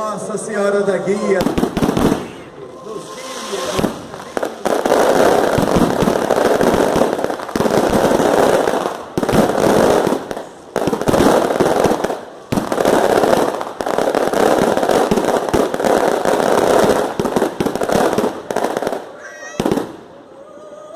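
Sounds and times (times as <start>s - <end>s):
fireworks bangs and crackling: 0.0s - 20.4s.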